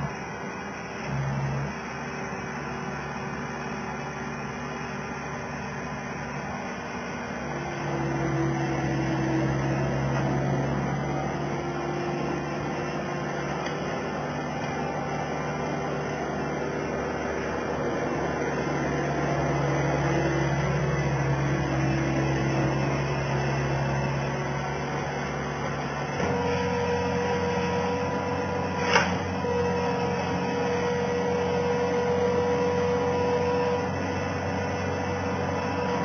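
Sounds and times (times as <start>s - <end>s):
loader engine running: 0.0s - 36.0s.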